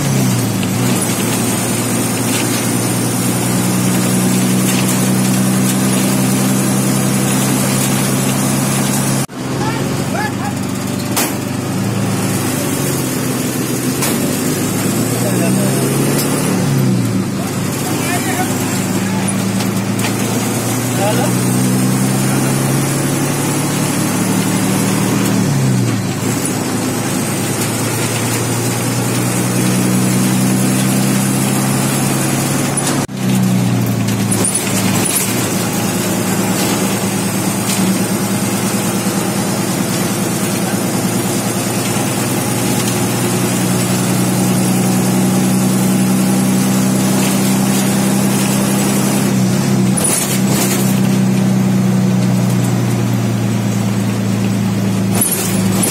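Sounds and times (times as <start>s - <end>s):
bus diesel engine: 0.0s - 55.9s.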